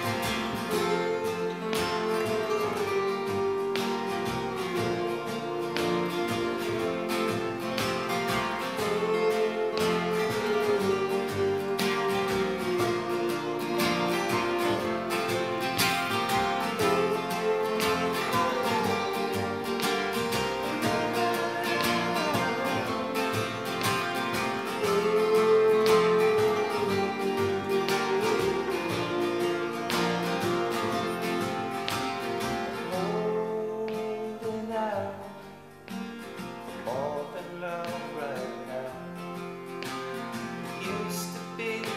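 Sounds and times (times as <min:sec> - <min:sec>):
acoustic guitars strummed: 0:00.0 - 0:41.9
held melody notes: 0:00.0 - 0:41.9.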